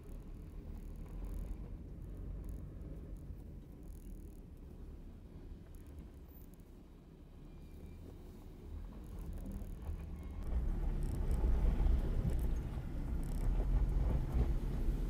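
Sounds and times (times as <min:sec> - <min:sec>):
engine and drivetrain rumble: 0:00.0 - 0:15.0.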